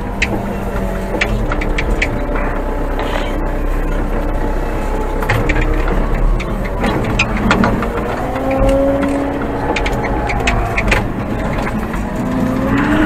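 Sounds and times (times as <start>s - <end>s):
diesel engine running: 0.0s - 13.0s
machine clicks and knocks: 0.0s - 13.0s.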